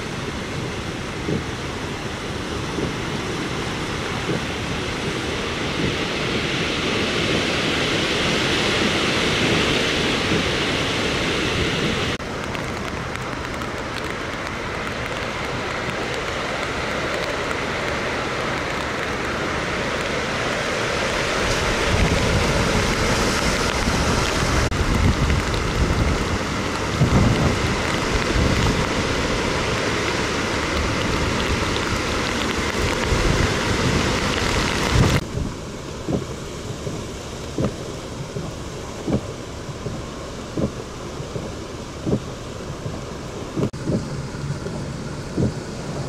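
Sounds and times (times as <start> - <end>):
wind gusts on microphone: 0.0 - 46.0
wind-driven rain: 0.0 - 46.0.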